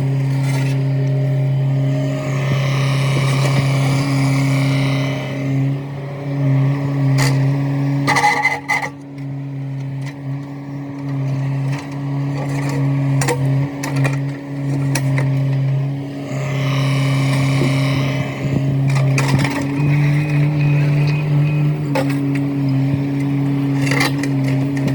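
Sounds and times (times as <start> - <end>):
digging machine engine running: 0.0 - 24.9
high-pitched whine: 0.0 - 24.9.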